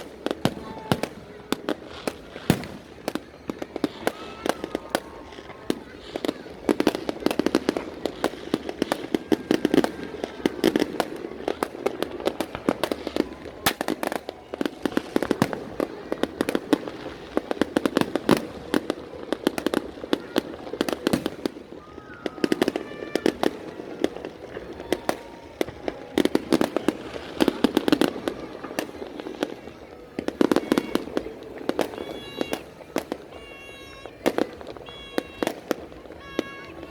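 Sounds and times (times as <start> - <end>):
fireworks bangs and crackles: 0.0 - 36.9
fireworks whistling: 0.0 - 36.9.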